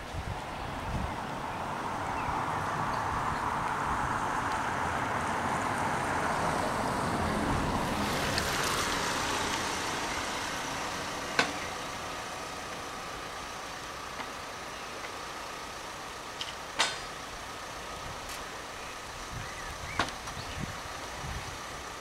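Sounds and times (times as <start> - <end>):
car tyres hissing on wet road: 0.0 - 22.0.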